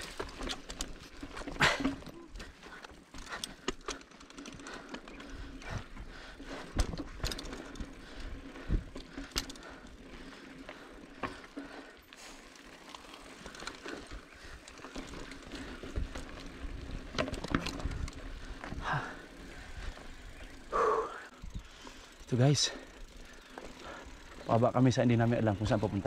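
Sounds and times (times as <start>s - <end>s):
mountain bike rattling: 0.0s - 26.0s.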